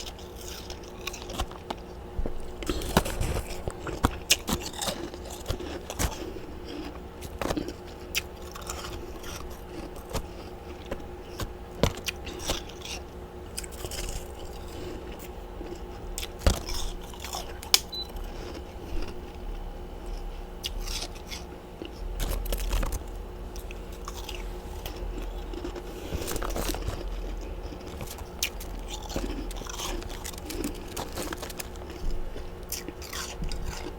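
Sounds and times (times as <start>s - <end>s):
crunching and chewing frost: 0.0s - 33.9s
faint steady hum: 0.0s - 33.9s.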